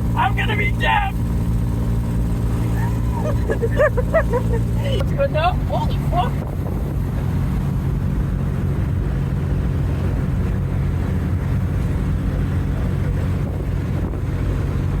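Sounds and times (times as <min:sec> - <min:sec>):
pickup truck engine drone: 0:00.0 - 0:15.0
road and wind noise: 0:00.0 - 0:15.0.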